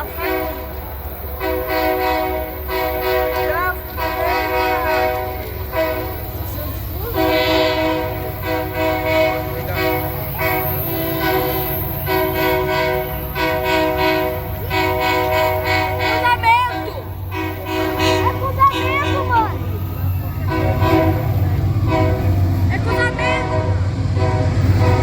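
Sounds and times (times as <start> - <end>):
locomotive low rumble: 0.0 - 25.0
train horn blasts: 0.0 - 25.0.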